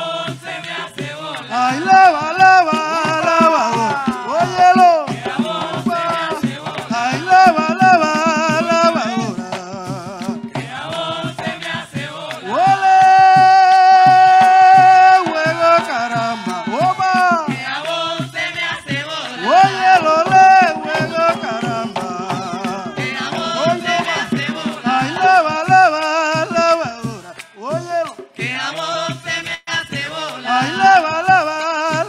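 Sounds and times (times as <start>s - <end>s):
hand drums beating: 0.0s - 32.0s
person singing: 1.1s - 17.9s, 18.7s - 32.0s.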